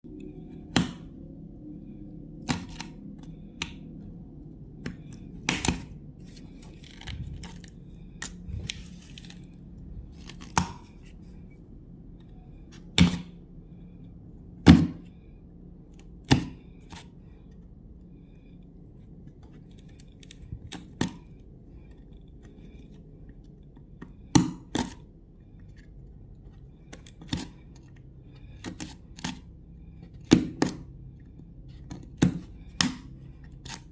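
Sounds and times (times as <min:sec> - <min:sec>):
faint hum: 0:00.0 - 0:33.9.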